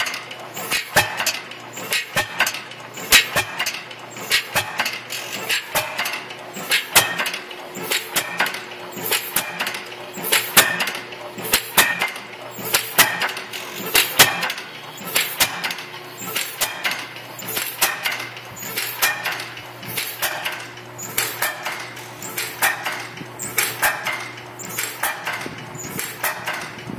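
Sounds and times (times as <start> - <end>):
single-cylinder engine clattering: 0.0 - 26.9.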